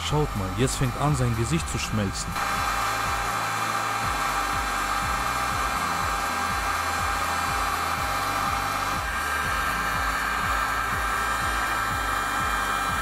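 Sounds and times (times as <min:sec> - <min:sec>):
hot air gun blowing: 0:00.0 - 0:13.0
music with steady beat: 0:00.0 - 0:13.0.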